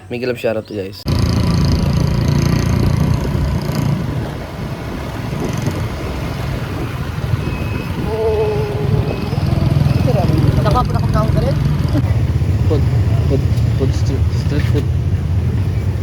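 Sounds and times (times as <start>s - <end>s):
vehicle engine and road rumble: 1.0s - 16.0s.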